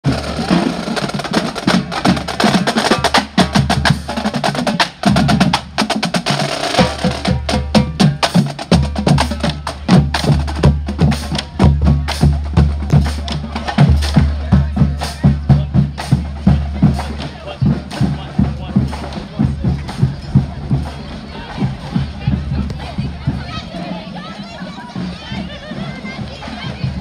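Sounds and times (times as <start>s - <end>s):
bass drums: 0.0s - 27.0s
marching band playing: 0.0s - 27.0s
snare and tenor drums: 0.0s - 27.0s.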